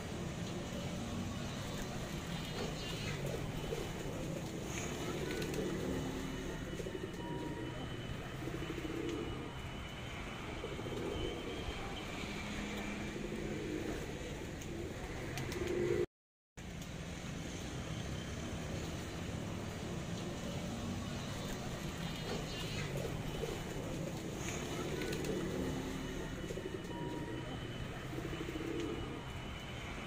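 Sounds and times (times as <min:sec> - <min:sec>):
pigeons cooing: 0:00.4 - 0:16.1, 0:20.2 - 0:29.8.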